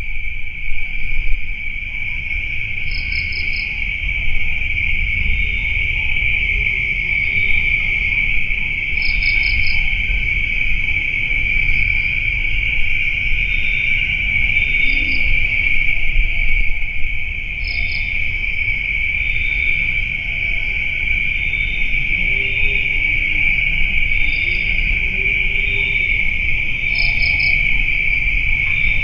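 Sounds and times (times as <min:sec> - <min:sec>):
crickets droning: 0:00.0 - 0:29.0.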